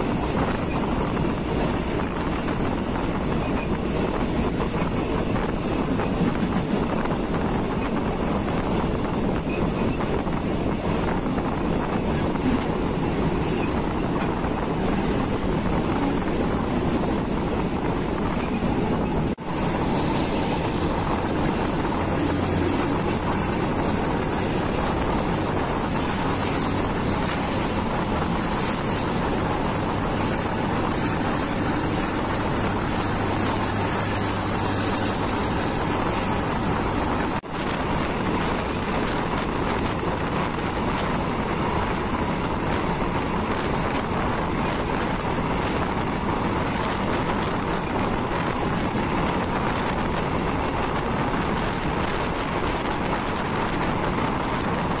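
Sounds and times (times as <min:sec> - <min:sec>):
train wheels on rails: 0:00.0 - 0:55.0
wind rushing: 0:00.0 - 0:55.0.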